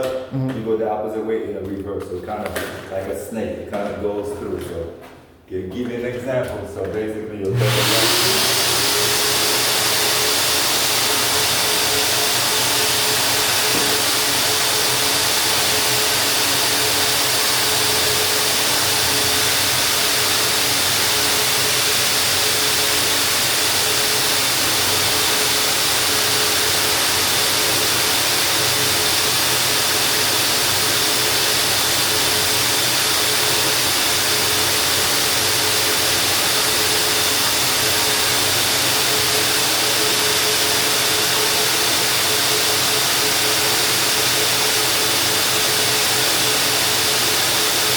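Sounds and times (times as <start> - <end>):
vacuum hissing and humming: 7.4 - 47.9.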